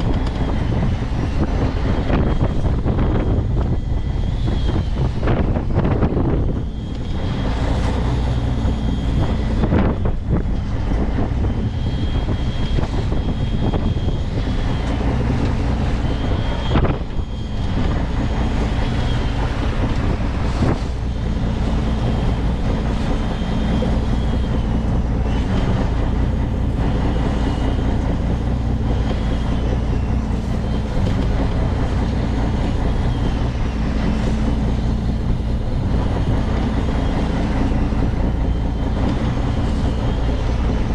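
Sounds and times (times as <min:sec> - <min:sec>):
electric fishing reel whine: 0:00.0 - 0:10.4, 0:11.2 - 0:40.9
boat engine running: 0:00.0 - 0:40.9
wind on microphone: 0:00.0 - 0:40.9.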